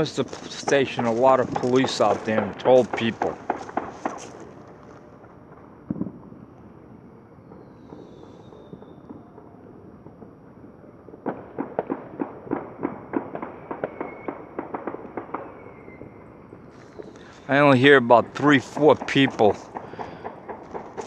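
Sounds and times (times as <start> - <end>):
firecrackers popping: 0.0 - 21.0.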